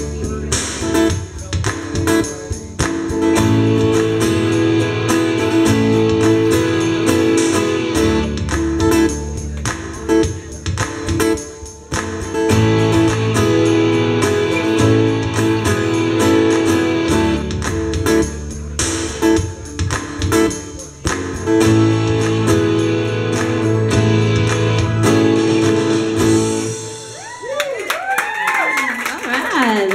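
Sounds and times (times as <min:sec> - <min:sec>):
steady drum beat: 0:00.0 - 0:26.5
amplified guitar strumming chords: 0:00.0 - 0:27.2.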